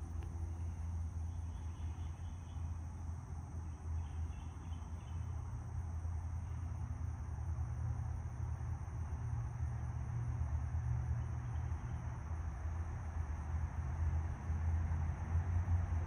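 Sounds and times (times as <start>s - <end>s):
insects buzzing: 0.0s - 14.6s.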